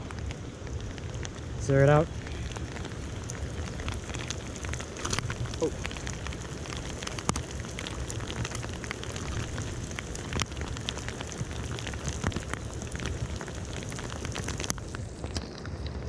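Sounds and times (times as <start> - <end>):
heavy rain falling: 0.0 - 16.0
sharp ticks of raindrops: 0.0 - 16.0.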